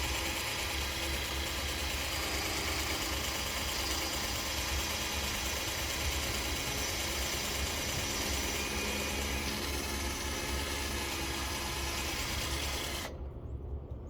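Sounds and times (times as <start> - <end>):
power drill grinding into steel: 0.0 - 13.2.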